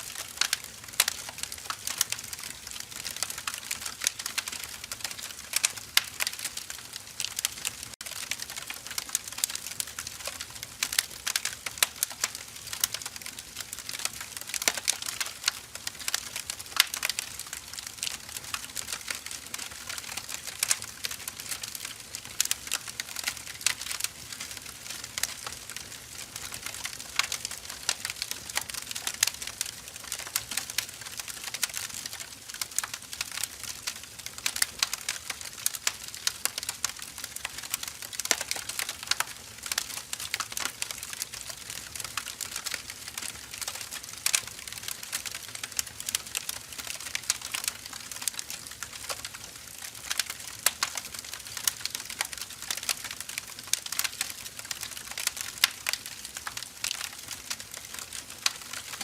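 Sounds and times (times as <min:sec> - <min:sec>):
burning firewood crackling: 0:00.0 - 0:59.0
soft steady fire hiss: 0:00.0 - 0:59.0.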